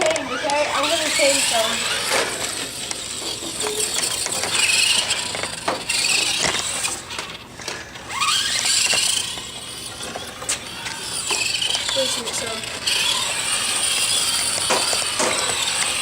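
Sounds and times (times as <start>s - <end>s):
electric rc car motor whining: 0.0s - 16.0s.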